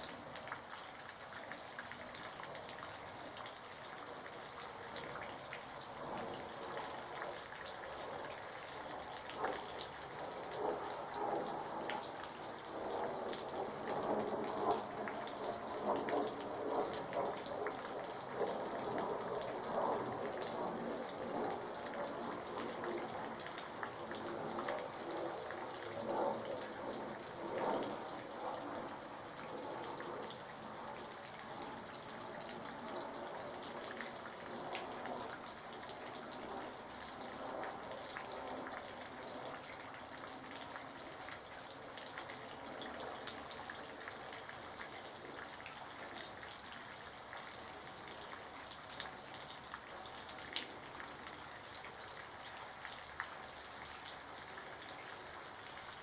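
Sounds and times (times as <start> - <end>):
raindrops ticking on surfaces: 0.0 - 56.0
steady rain falling: 0.0 - 56.0.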